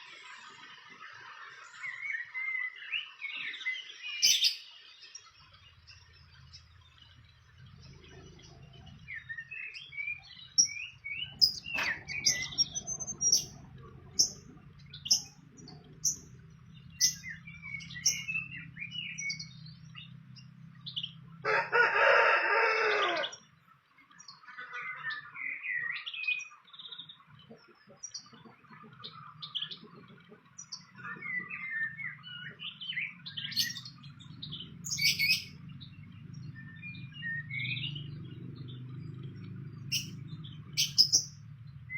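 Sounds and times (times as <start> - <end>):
small birds chirping: 0.0 - 21.4, 23.0 - 41.9.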